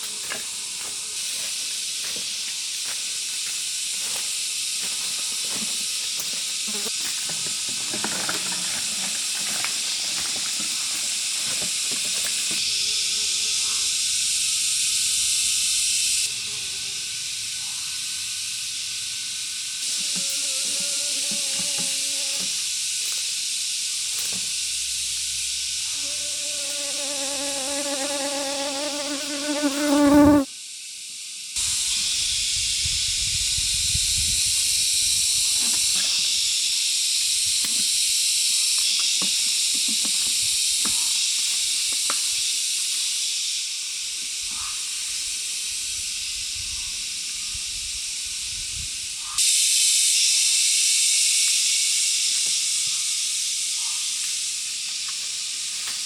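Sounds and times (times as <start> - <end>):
high insect hiss: 0.0 - 56.0.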